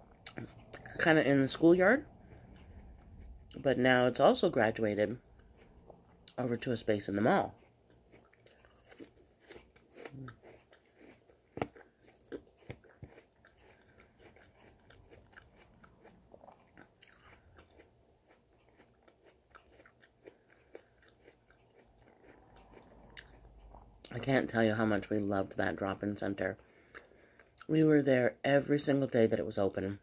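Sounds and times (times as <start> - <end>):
person chewing crunchy apple: 0.1 - 27.7.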